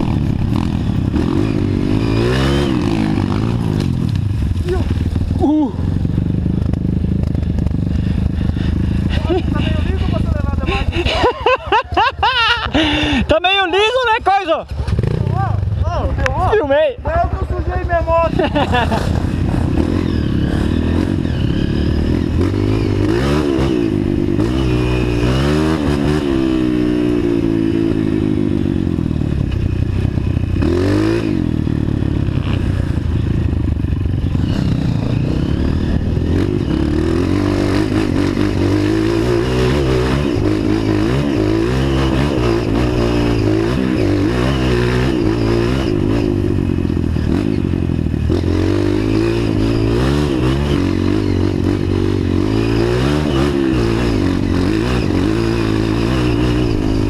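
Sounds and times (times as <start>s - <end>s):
off-road motorcycle engine revving: 0.0s - 57.0s.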